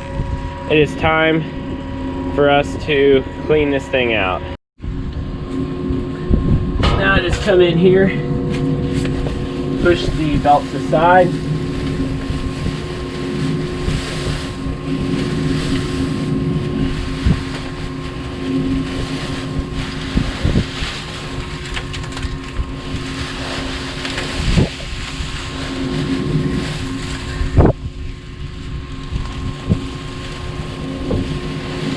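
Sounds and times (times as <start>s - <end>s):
wind on microphone: 0.0s - 3.7s, 4.8s - 31.9s
engine idling hum: 0.0s - 31.9s.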